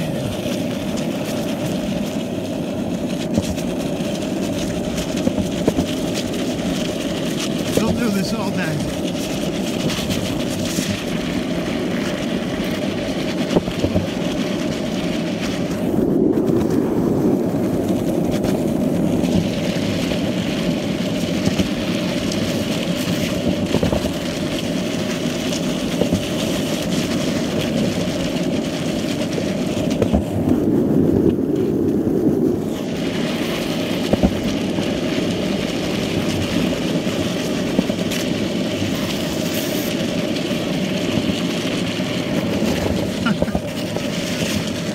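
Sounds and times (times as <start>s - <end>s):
skateboard wheels rolling on asphalt: 0.0s - 44.9s
wheels knocking over cracks: 0.0s - 44.9s.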